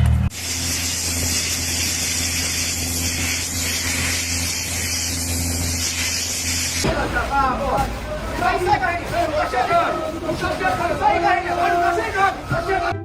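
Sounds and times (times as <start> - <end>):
machine hum: 0.0 - 13.0
strong hiss: 0.3 - 12.9.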